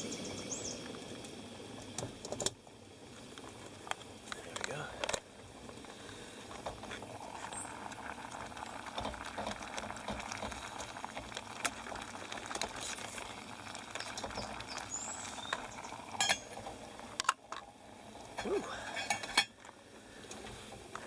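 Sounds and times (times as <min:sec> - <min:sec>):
pot simmering and bubbling: 0:00.0 - 0:21.0.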